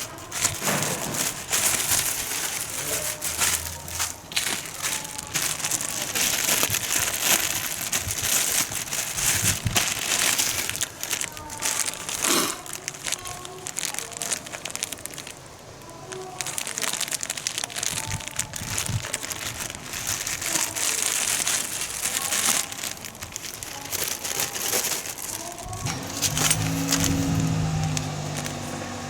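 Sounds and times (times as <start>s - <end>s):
rustling and crinkling handling: 0.0s - 29.0s.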